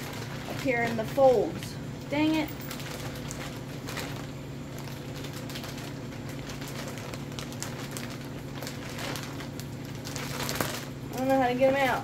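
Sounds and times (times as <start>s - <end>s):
plastic bag crinkling: 0.0s - 12.0s
steady low hum: 0.0s - 12.0s.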